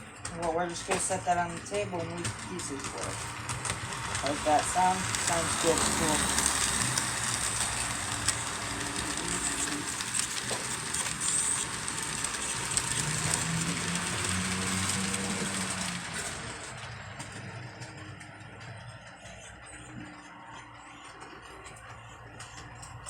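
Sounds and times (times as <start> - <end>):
model train motor whine: 0.0 - 23.0
wheel rumble: 0.0 - 23.0.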